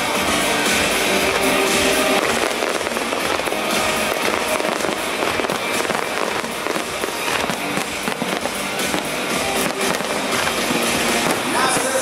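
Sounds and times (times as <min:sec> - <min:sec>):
fireworks pops and crackles: 0:00.0 - 0:12.0
music playing: 0:00.0 - 0:12.0.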